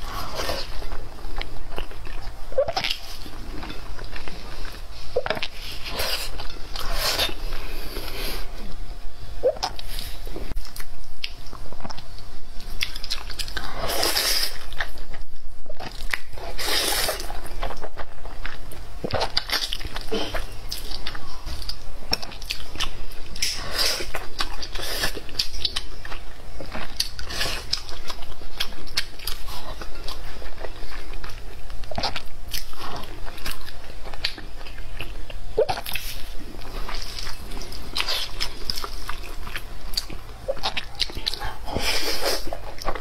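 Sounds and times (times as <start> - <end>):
chewing: 0.0 - 8.8, 9.4 - 43.0.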